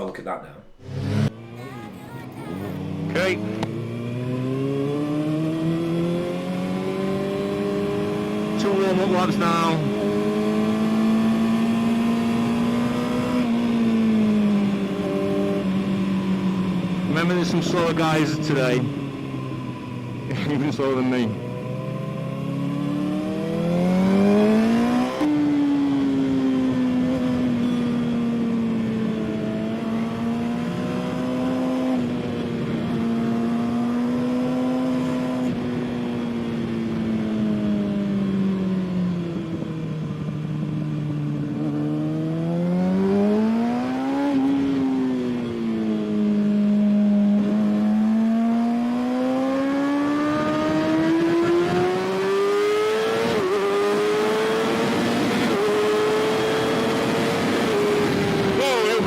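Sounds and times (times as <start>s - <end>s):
motorcycle engine revving: 0.7s - 1.6s, 2.8s - 59.0s.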